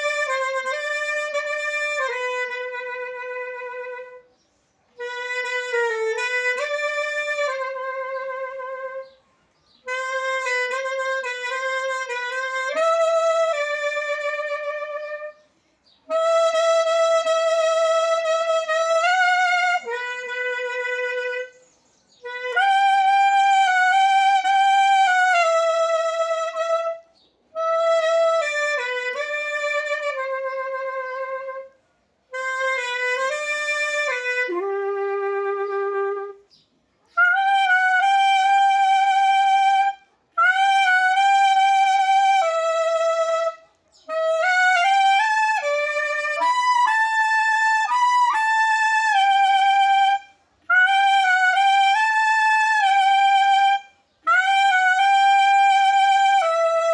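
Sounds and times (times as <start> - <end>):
solo clarinet hymn melody: 0.0 - 56.9.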